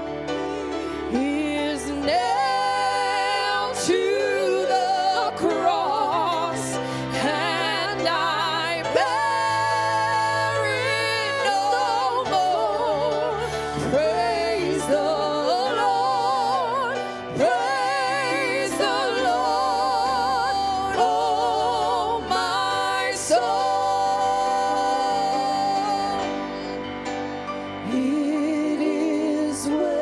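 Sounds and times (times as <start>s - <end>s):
person singing a slow hymn: 0.0s - 30.0s
sustained chord accompaniment: 0.0s - 30.0s.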